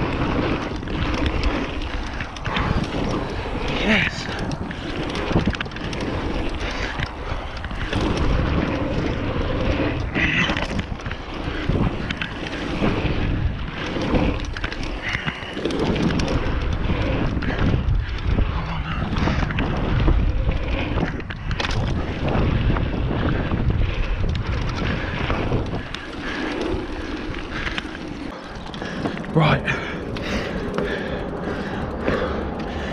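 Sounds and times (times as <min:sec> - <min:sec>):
bike knocks and rattles: 0:00.0 - 0:32.9
bike tyres rumbling on dirt: 0:00.0 - 0:32.9
wind buffeting microphone: 0:00.0 - 0:32.9.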